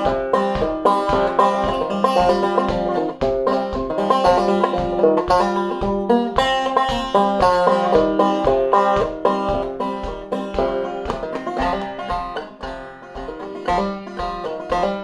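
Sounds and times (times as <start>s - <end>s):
banjo playing: 0.0s - 15.0s.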